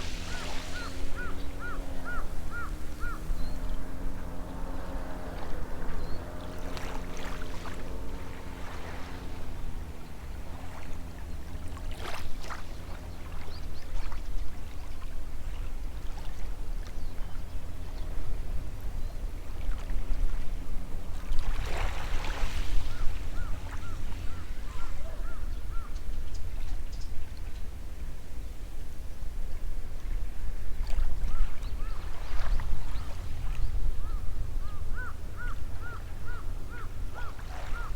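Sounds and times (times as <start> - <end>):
distant boat engine hum: 0.0 - 37.9
small waves washing ashore: 0.0 - 37.9.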